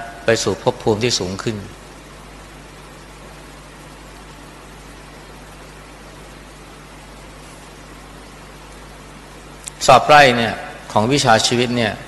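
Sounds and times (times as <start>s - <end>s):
low even hum: 0.0s - 12.0s
steady hiss: 0.0s - 12.0s.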